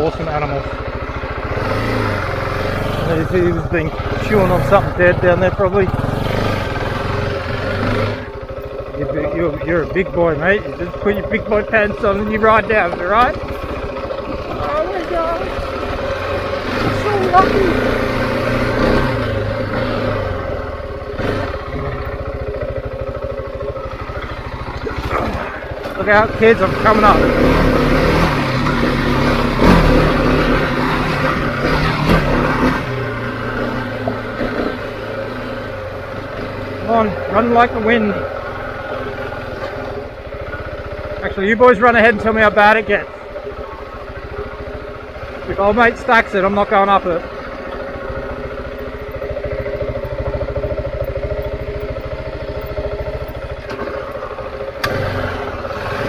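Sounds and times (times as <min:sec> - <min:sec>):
motorcycle engine pulling uphill: 0:00.0 - 0:56.0.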